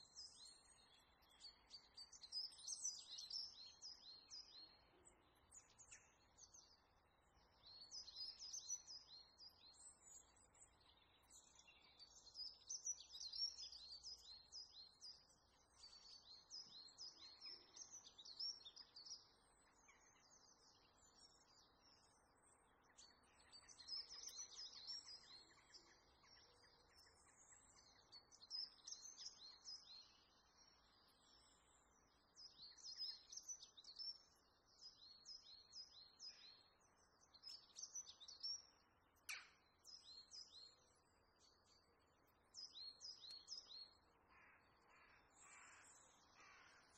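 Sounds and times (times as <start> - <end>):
small birds chirping and singing: 0.0 - 46.9.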